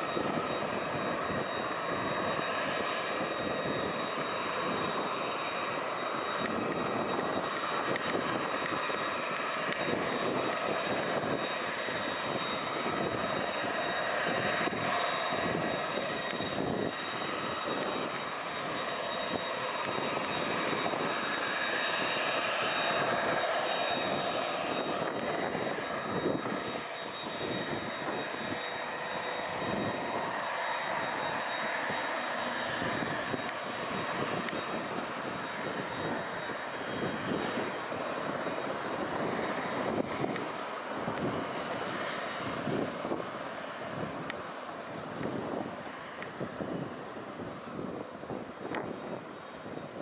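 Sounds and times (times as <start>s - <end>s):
jet engines roaring and whining: 0.0s - 50.0s.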